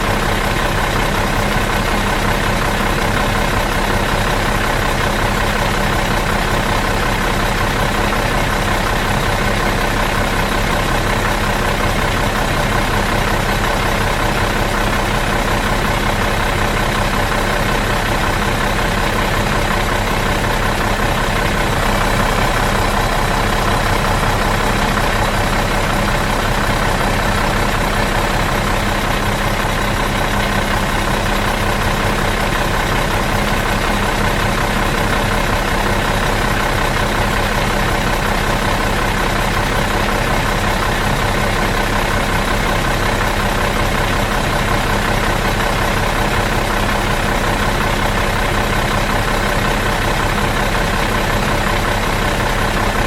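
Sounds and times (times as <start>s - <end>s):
bus engine idling: 0.0s - 53.0s.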